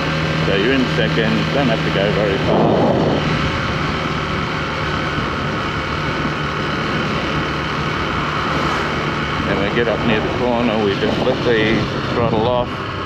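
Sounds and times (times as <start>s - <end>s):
motorcycle engine running: 0.0s - 13.0s
steady rushing noise: 0.0s - 13.0s.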